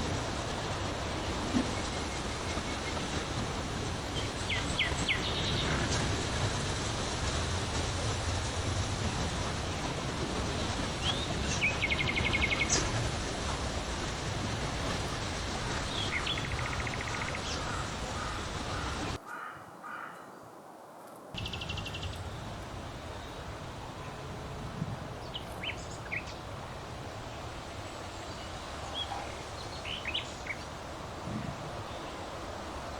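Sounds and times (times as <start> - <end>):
steady wind noise: 0.0 - 19.2, 21.4 - 32.9
birds chirping: 0.0 - 20.3, 21.4 - 32.9.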